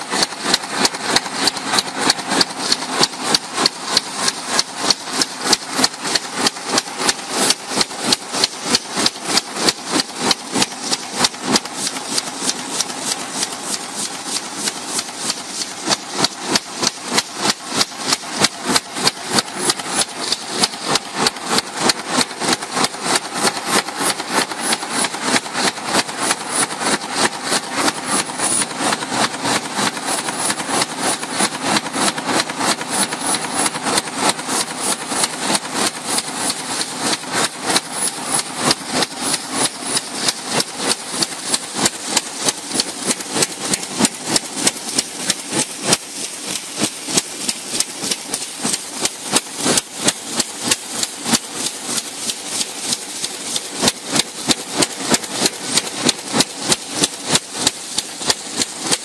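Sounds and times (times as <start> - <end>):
machine running noise: 0.0 - 59.0.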